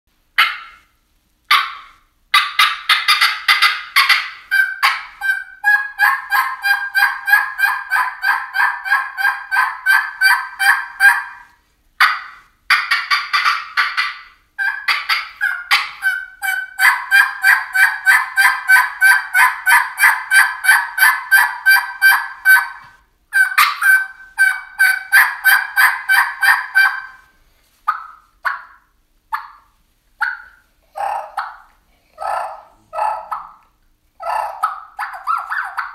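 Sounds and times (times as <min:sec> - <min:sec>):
turkey call yelps: 0:00.4 - 0:00.9, 0:01.5 - 0:27.3, 0:27.9 - 0:35.9.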